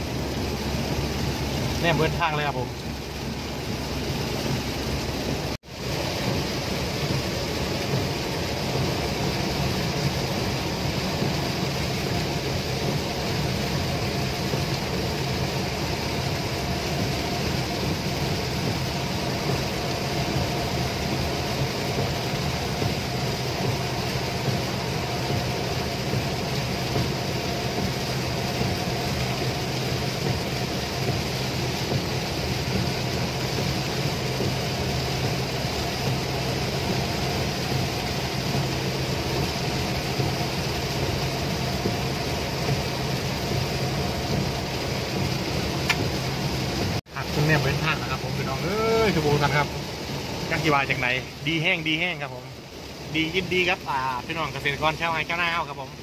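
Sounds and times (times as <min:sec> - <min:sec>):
car engine humming: 0:00.0 - 0:56.0
heavy rain on car: 0:00.0 - 0:56.0
road noise: 0:00.0 - 0:56.0.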